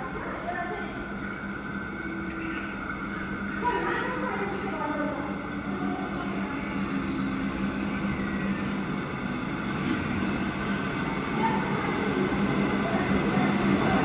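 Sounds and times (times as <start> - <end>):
low train hum: 0.0 - 14.0
train wheels rumbling on rails: 0.0 - 14.0.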